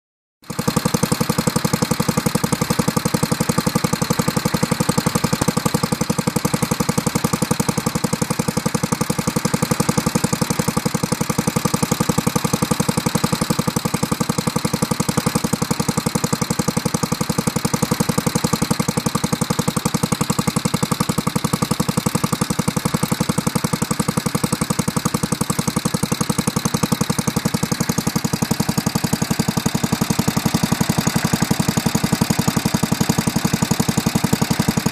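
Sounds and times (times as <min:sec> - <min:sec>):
garden tractor engine idling: 0:00.5 - 0:34.9.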